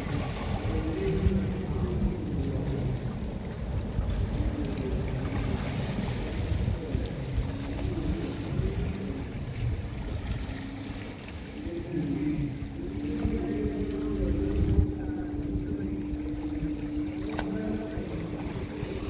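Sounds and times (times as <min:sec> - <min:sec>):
faint wavering hum: 0:00.0 - 0:19.0
surf on shore: 0:00.0 - 0:19.0
wind buffeting microphone: 0:00.0 - 0:19.0.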